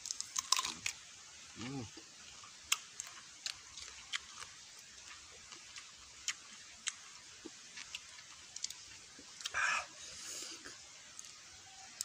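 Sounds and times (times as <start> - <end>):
person chewing fruit: 0.0 - 1.0, 1.6 - 11.4.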